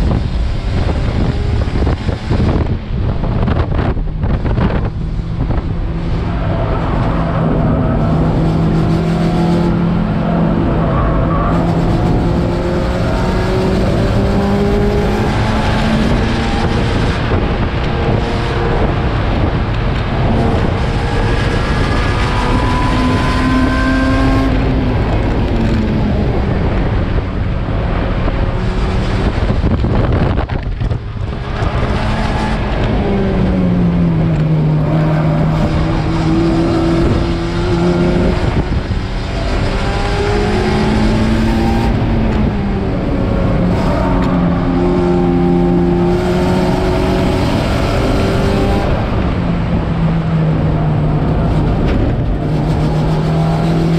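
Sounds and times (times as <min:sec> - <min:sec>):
race car engine accelerating: 0:00.0 - 0:53.9
tyre and wind noise: 0:00.0 - 0:53.9.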